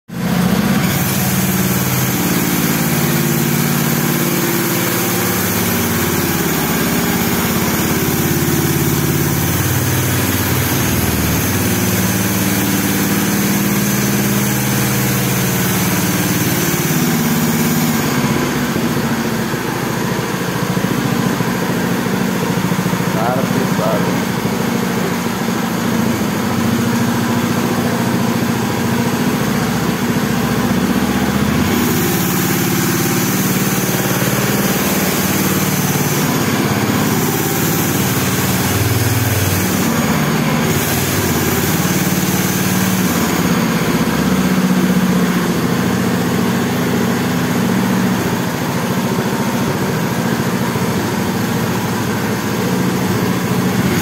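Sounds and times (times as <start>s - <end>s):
go-kart engine running: 0.1s - 54.0s.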